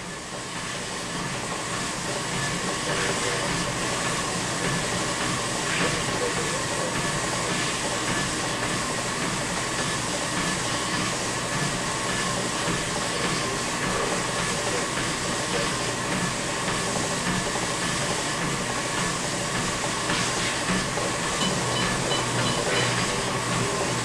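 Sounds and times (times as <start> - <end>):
treadmill motor and belt whirring: 0.0 - 24.0.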